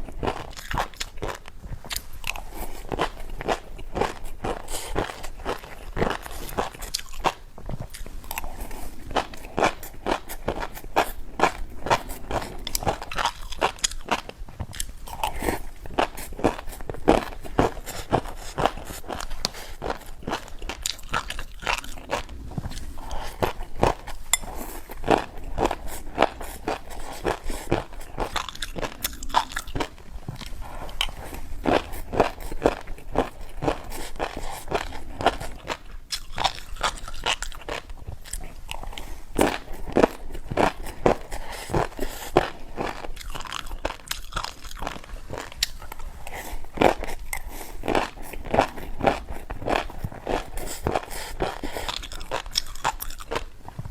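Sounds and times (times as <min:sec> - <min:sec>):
person chewing crunchy snack: 0:00.0 - 0:53.9.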